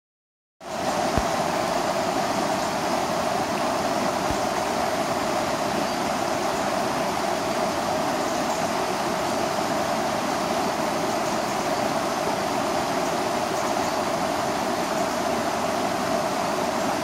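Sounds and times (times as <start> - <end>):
river water rushing over weir: 0.6 - 17.0.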